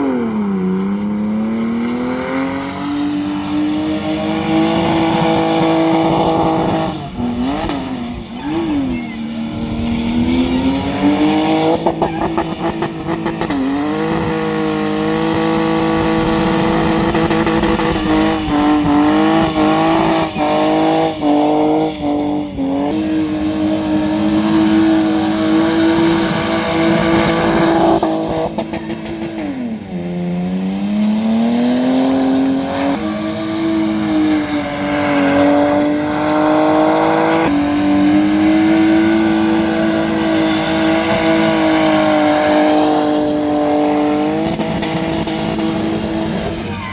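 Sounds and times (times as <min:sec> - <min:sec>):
car engine revving high: 0:00.0 - 0:46.9.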